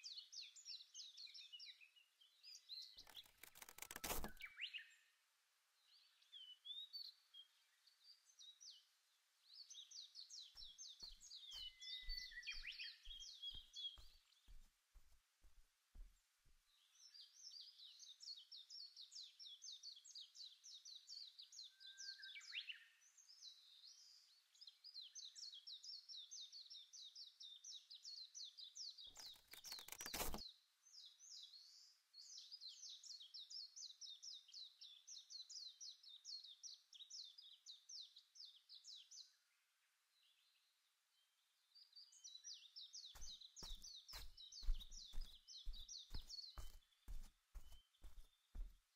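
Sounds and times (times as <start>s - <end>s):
small birds chirping: 0.0s - 5.2s, 5.8s - 48.9s.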